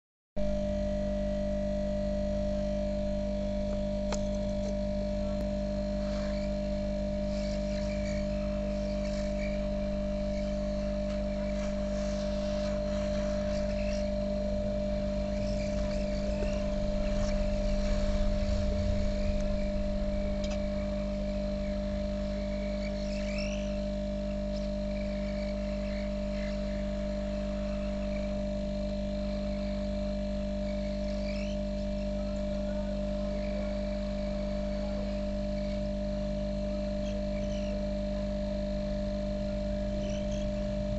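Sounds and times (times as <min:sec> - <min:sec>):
hot-air gun blower humming: 0:00.4 - 0:40.9.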